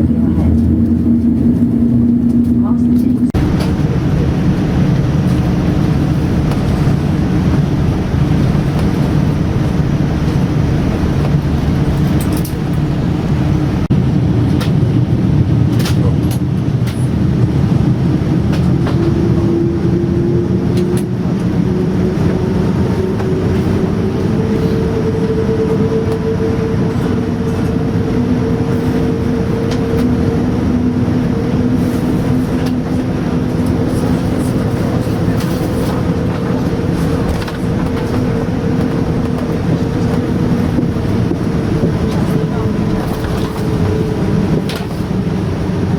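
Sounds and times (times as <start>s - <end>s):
jet engine whine rising: 0.0s - 45.9s
loud cabin rumble: 0.0s - 45.9s
low engine tone: 0.0s - 45.9s.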